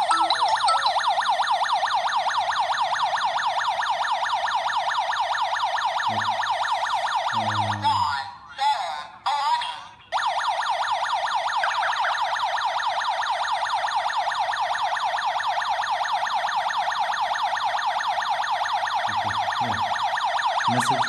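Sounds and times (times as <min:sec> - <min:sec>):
electronic alarm siren wailing: 0:00.0 - 0:08.4, 0:10.1 - 0:21.0.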